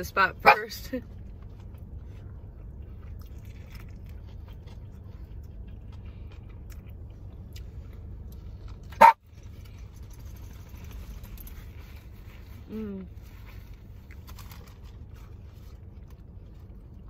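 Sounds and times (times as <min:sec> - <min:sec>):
people chewing food: 0:01.0 - 0:17.0.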